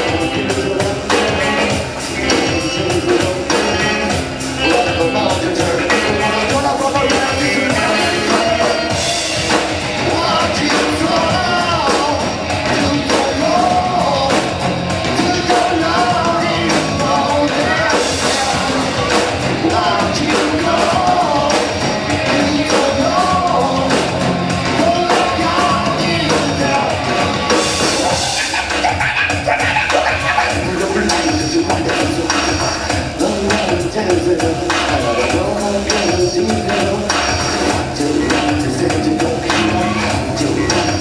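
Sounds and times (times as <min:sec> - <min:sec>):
person singing: 0:00.0 - 0:41.0
rock band playing live: 0:00.0 - 0:41.0.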